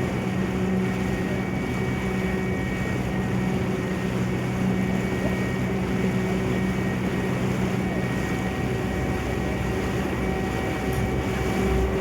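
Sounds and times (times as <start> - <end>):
ferry engine humming: 0.0 - 12.0.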